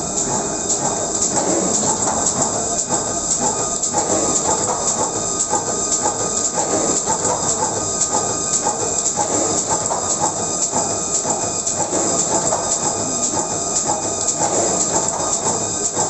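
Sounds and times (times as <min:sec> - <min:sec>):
paper sheeter machine clattering: 0:00.0 - 0:16.0.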